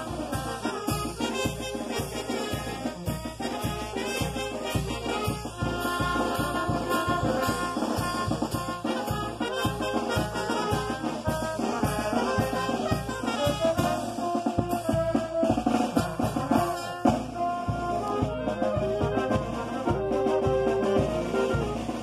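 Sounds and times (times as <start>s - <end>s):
steady drum beat: 0.0s - 22.0s
trumpets and trombones: 0.0s - 22.0s.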